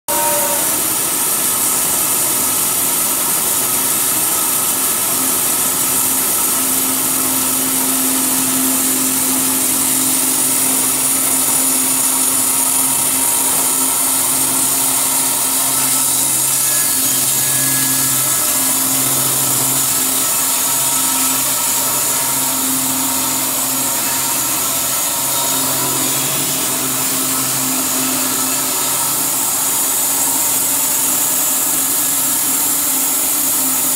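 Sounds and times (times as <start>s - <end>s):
steady motor hum: 0.0s - 33.9s
saw blade cutting log: 3.6s - 33.9s.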